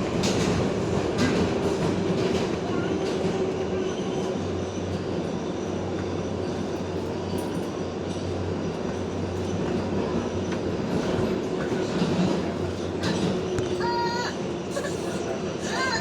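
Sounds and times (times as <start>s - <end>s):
subway train wheels rumbling on rail: 0.0s - 16.0s.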